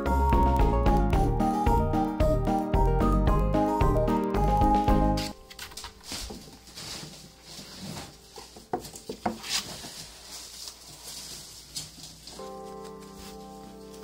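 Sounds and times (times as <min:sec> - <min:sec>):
background music: 0:00.0 - 0:09.6, 0:12.2 - 0:14.0.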